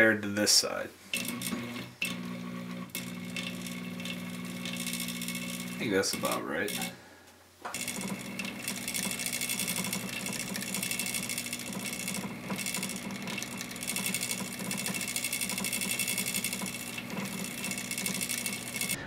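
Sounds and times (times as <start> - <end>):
small electric motor whirring: 1.1 - 6.9, 7.7 - 19.0.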